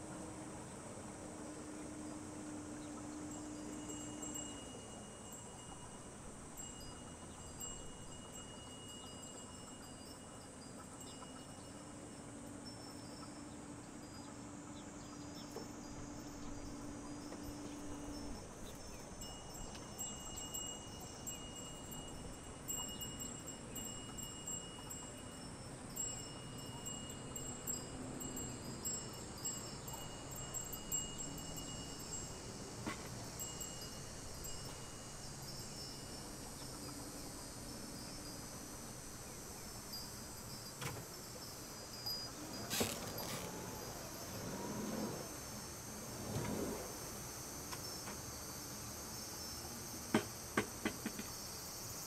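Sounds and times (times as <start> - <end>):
insects calling: 0.0 - 52.0.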